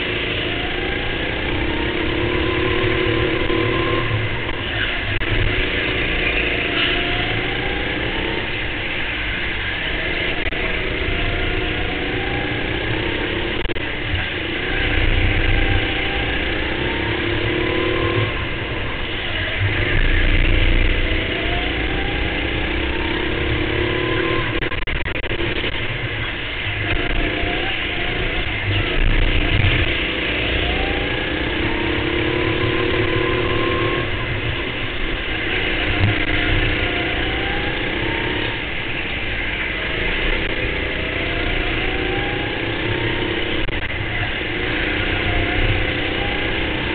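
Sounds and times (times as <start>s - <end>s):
go-kart engine revving: 0.0s - 46.9s
steady rushing noise: 0.0s - 46.9s.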